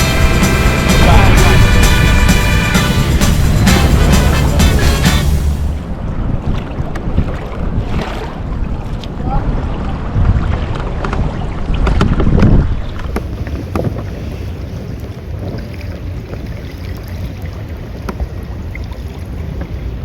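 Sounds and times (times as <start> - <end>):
water splashing against hull: 0.0 - 20.0
wind buffeting microphone: 0.0 - 20.0.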